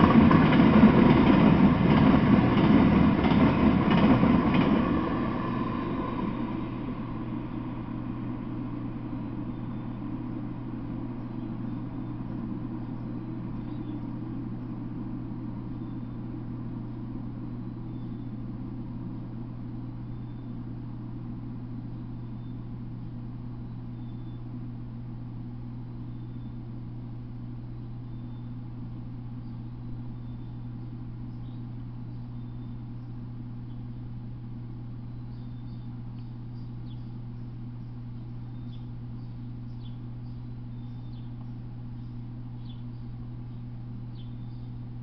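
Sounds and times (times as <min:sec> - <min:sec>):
freight train rumble: 0:00.0 - 0:45.0
steady low hum: 0:00.0 - 0:45.0.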